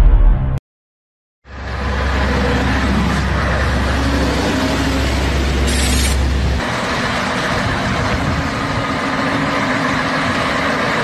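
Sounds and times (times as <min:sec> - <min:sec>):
heavy trucks driving past: 0:01.5 - 0:11.0.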